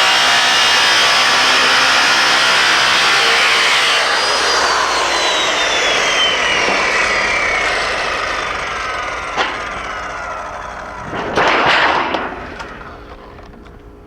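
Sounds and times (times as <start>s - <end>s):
power tool grinding sheet metal: 0.0s - 13.0s
high whine falling in pitch: 0.0s - 13.5s.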